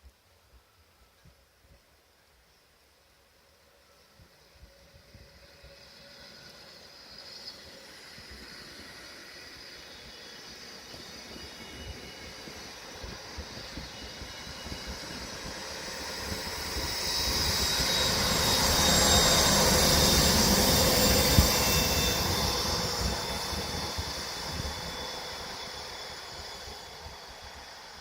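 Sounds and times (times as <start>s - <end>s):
train passing: 3.7s - 28.0s.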